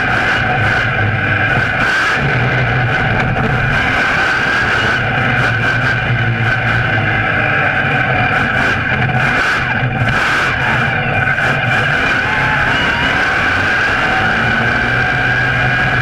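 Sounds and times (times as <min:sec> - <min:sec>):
monster truck engine running: 0:00.0 - 0:16.0.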